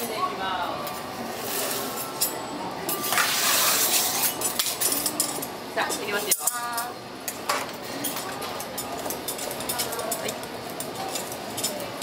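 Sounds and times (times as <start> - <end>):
metal tools clinking and scraping: 1.4 - 6.9, 7.5 - 12.0.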